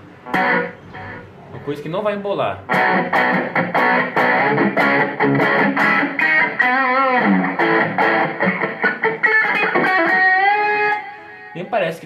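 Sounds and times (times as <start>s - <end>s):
electric guitar with delay: 0.0s - 1.6s, 2.6s - 11.6s.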